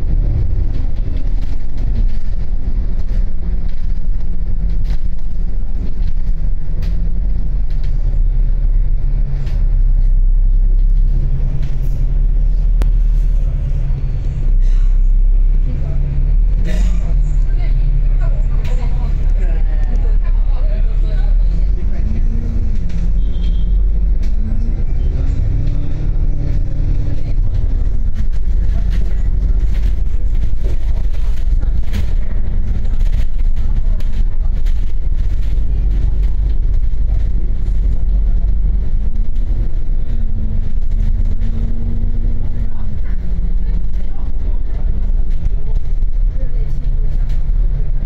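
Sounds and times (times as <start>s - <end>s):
bus engine rumbling: 0.0s - 48.0s.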